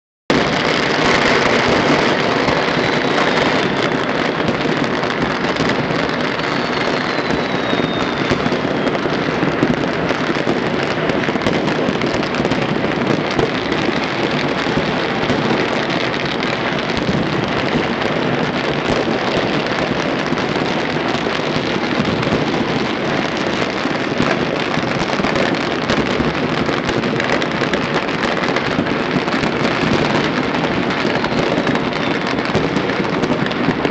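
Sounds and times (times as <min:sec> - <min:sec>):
falling firework whistle: 0:00.3 - 0:33.9
firecrackers crackling: 0:00.3 - 0:33.9.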